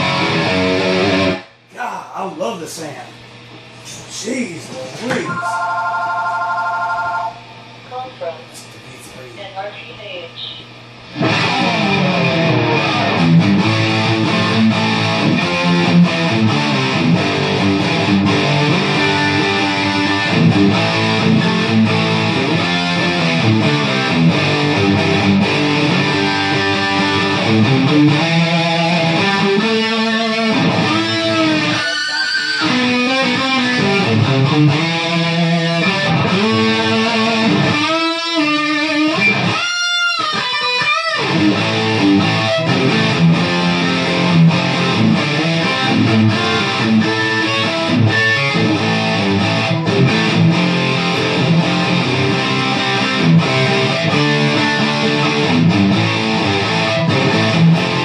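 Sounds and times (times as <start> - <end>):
electric guitar through tube amp: 0.0 - 1.8, 10.0 - 58.0.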